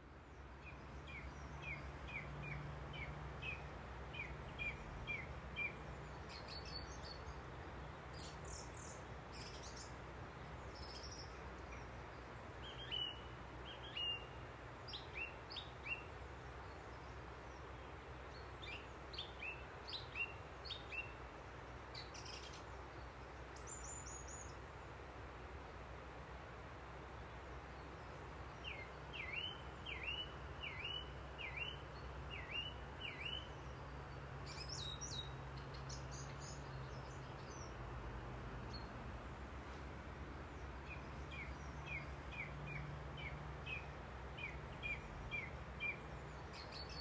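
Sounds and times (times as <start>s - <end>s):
songbirds calling: 0.0s - 47.0s.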